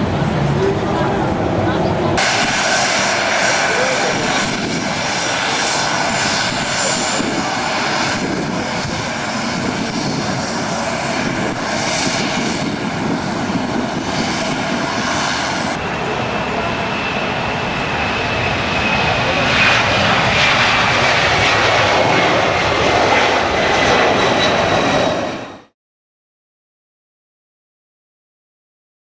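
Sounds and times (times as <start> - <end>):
steady high whine: 0.0 - 25.7
airliner engines running: 0.0 - 25.8.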